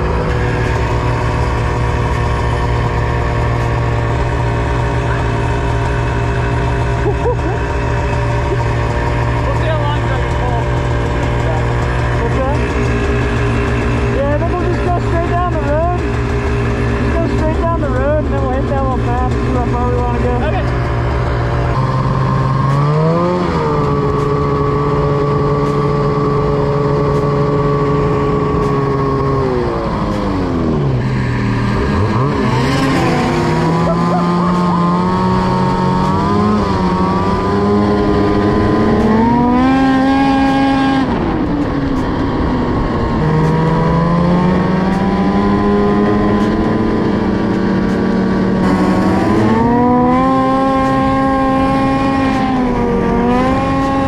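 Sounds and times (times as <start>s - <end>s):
snowmobile engine running: 0.0s - 54.0s
wind rush and track noise: 0.0s - 54.0s.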